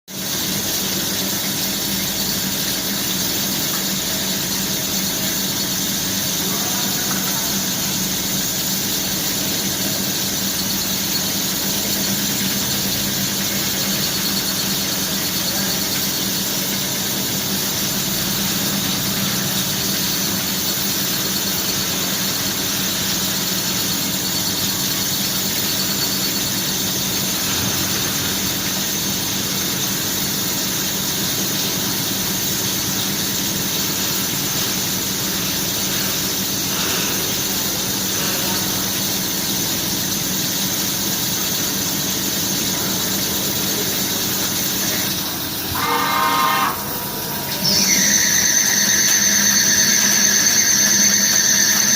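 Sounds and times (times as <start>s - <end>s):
cnc machine high-pitched whine: 0.2s - 51.9s.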